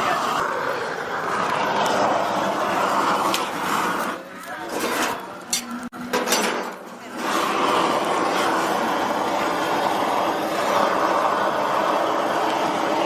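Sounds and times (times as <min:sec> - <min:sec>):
gas torch hissing: 0:00.0 - 0:05.9, 0:06.7 - 0:13.0.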